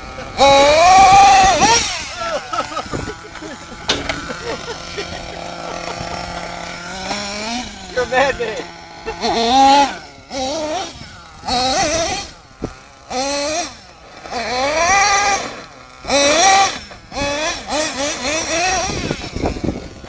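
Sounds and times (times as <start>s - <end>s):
small nitro engine revving: 0.0s - 20.0s.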